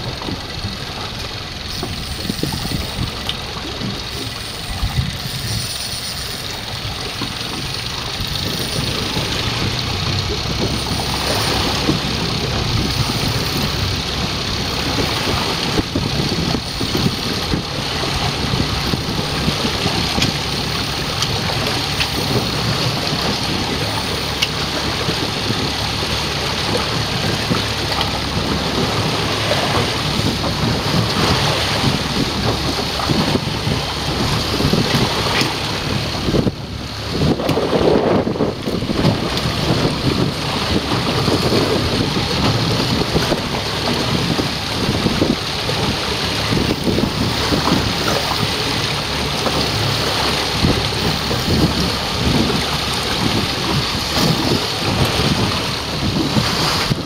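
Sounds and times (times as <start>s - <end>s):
boat engine running: 0.0s - 57.0s
rushing wind and sea: 0.0s - 57.0s.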